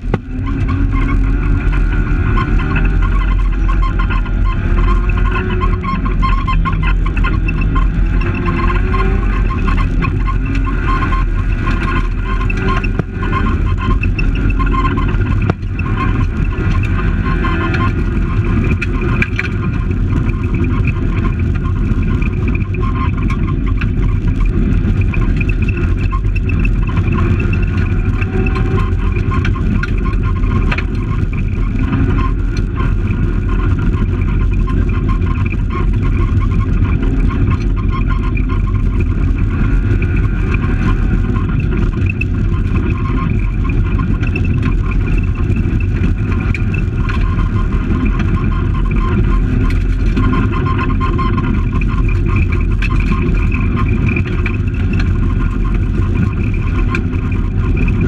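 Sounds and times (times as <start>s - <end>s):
rally car engine under load: 0.0s - 58.0s
tyres and stones rumbling: 0.0s - 58.0s.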